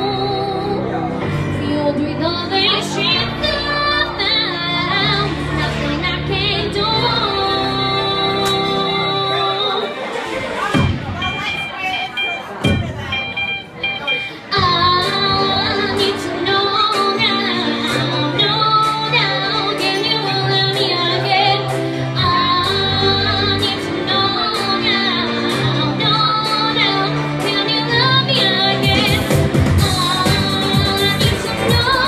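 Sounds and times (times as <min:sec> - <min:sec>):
woman singing into microphone: 0:00.0 - 0:12.2, 0:14.3 - 0:32.0
pop backing track: 0:00.0 - 0:32.0.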